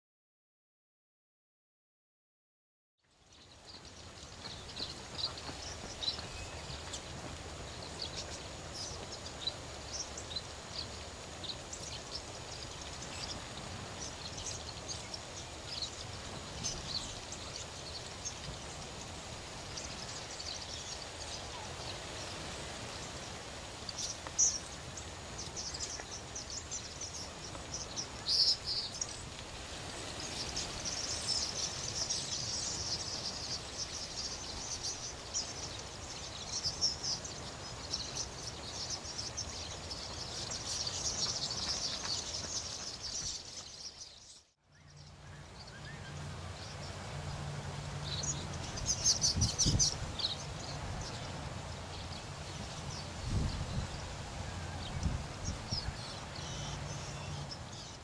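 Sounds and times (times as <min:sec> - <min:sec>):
small birds chirping: 0:03.0 - 0:58.0
steady outdoor hiss: 0:03.0 - 0:58.0.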